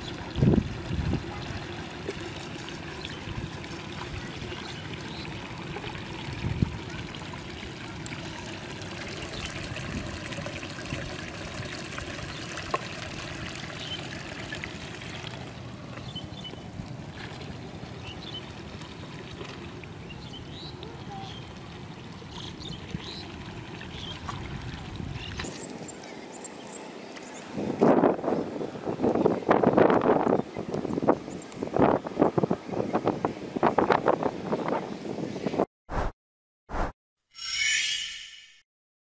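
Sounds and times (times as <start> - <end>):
shallow water trickling and lapping: 0.0 - 35.2.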